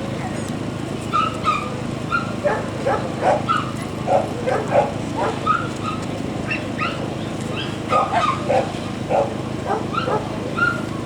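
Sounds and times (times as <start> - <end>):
dogs yapping: 1.1 - 11.0.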